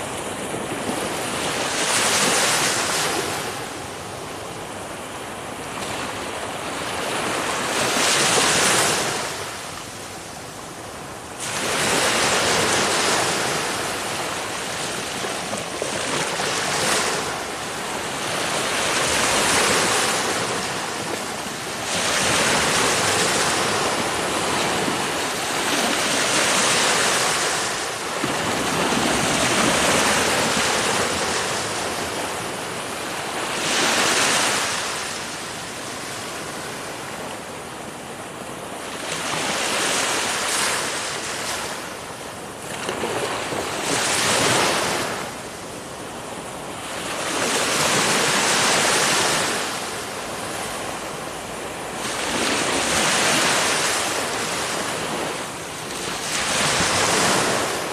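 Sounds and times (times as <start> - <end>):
ocean waves breaking on shore: 0.0 - 57.9.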